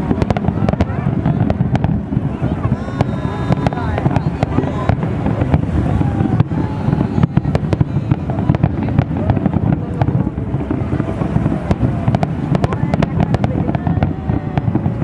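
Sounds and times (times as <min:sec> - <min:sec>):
fireworks cracks and bangs: 0:00.0 - 0:15.0
low rumble: 0:00.0 - 0:15.0.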